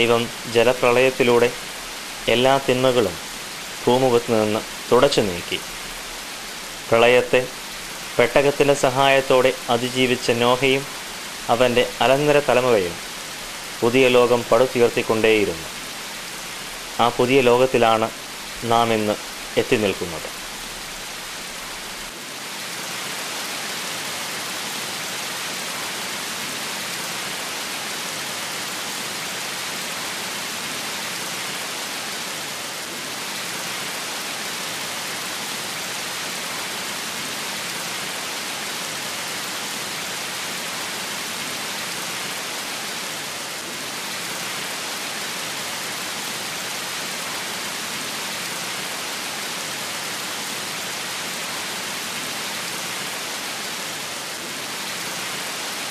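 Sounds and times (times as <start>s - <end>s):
small waterfall pouring: 0.0s - 55.9s.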